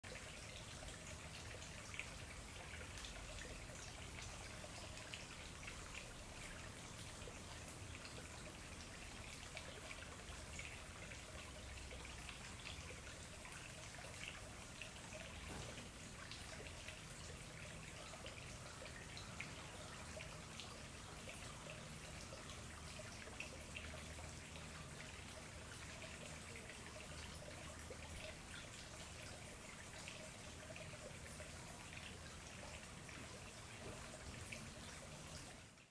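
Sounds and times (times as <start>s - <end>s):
stream trickling over stones: 0.0s - 35.9s
water drips and splashes: 0.0s - 35.9s.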